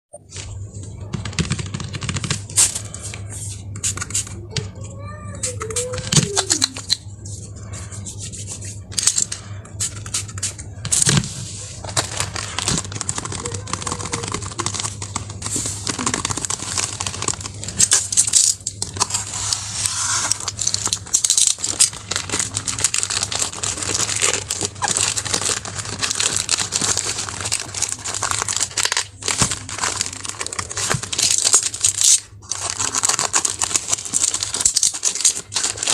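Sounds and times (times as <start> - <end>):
packaging crinkling and tearing: 5.4 - 7.6, 8.7 - 35.9.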